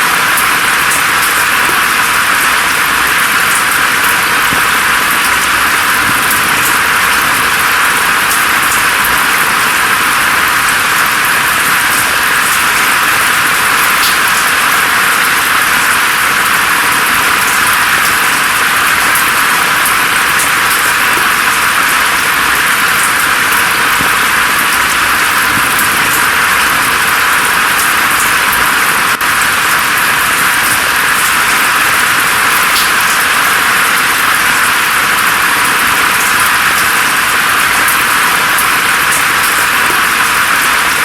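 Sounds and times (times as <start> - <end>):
rain falling through foliage: 0.0 - 41.0
raindrop ticks: 0.0 - 41.0.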